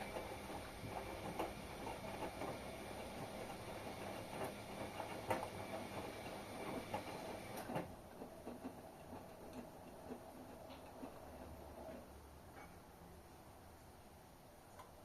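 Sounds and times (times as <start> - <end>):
washing machine running: 0.0 - 12.2.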